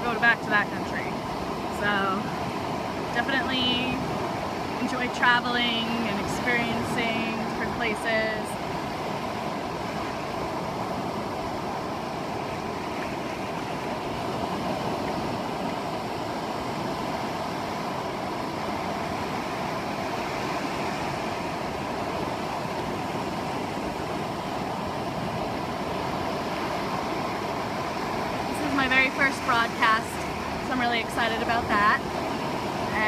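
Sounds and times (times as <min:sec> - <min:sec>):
ocean surf: 0:00.0 - 0:33.0
wind: 0:00.0 - 0:33.0.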